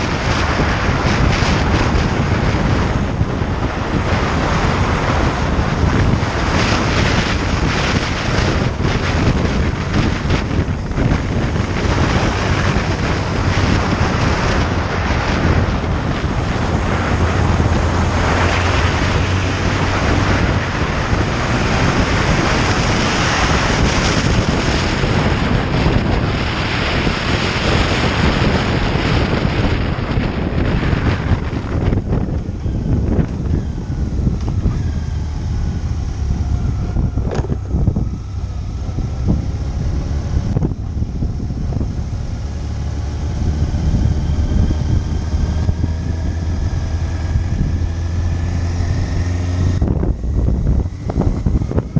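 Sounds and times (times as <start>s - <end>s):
motorcycle engine hum: 0.0s - 51.9s
wind rushing over microphone: 0.0s - 51.9s.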